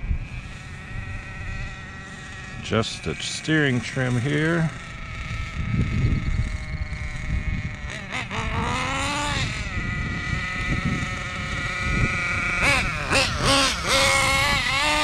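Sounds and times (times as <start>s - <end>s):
small engine idling with throttle blips: 0.0s - 15.0s.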